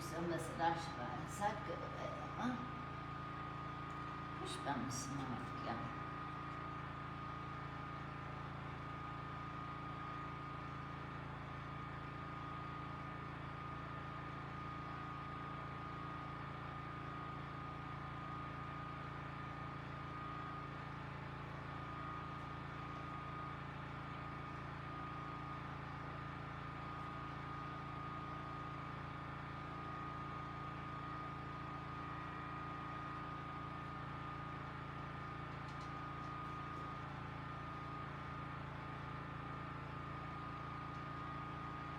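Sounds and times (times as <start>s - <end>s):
generator humming: 0.0s - 41.9s.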